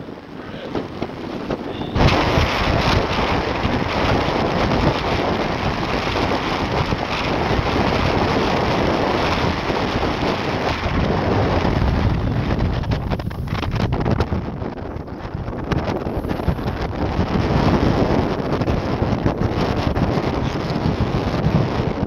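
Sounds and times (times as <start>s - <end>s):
distant rocket engines rumbling: 0.0s - 22.0s.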